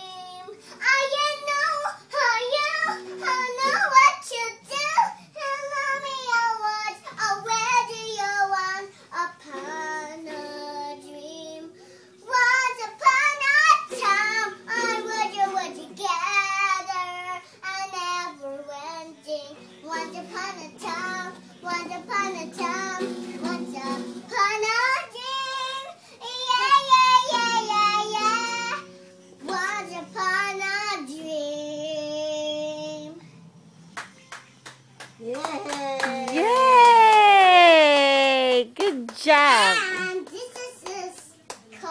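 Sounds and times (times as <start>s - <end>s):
girl singing: 0.0s - 33.2s, 37.4s - 41.9s.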